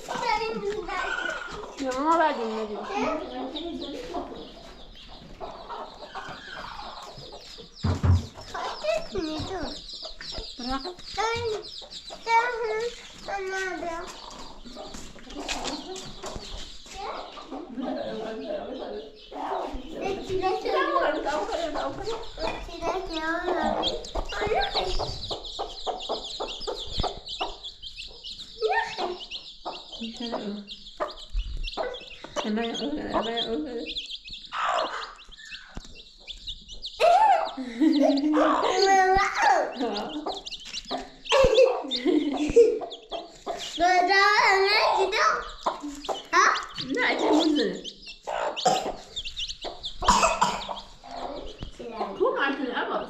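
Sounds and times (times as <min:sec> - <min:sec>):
chickens clucking: 0:00.0 - 0:53.0
high-pitched chirping: 0:00.1 - 0:52.4.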